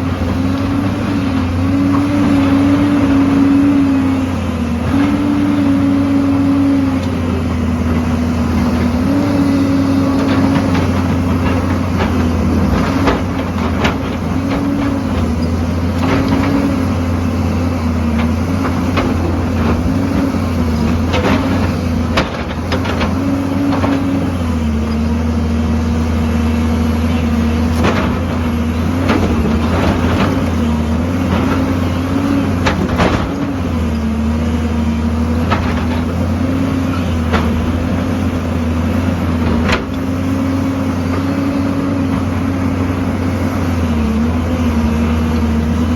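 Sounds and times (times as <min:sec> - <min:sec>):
diesel engine under load: 0:00.0 - 0:45.9.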